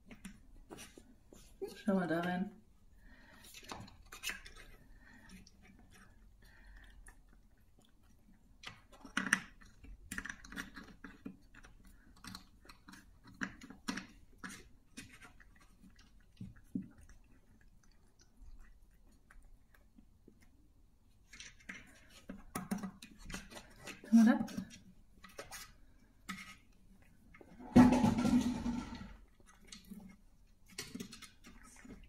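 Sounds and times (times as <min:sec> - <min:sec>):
cat chewing: 0:02.7 - 0:27.6, 0:29.2 - 0:32.0.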